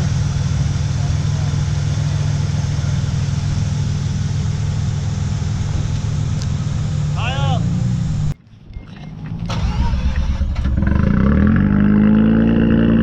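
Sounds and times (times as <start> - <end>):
vehicle engine idling: 0.0 - 11.8.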